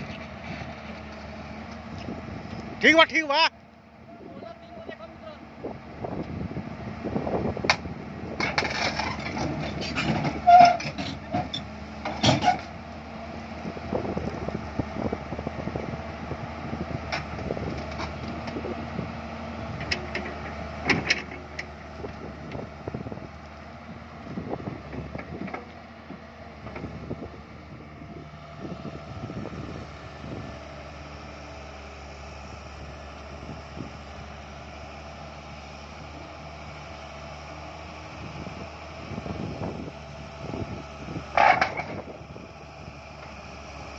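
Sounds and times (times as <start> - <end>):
excavator diesel engine under load: 0.0 - 43.9.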